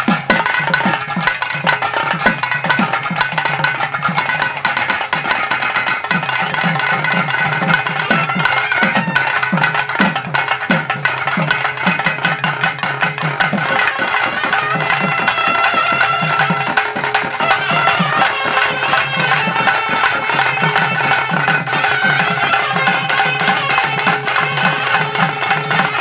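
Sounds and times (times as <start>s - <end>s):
barrel drums beaten fast: 0.0s - 26.0s
high held melody line: 0.0s - 26.0s.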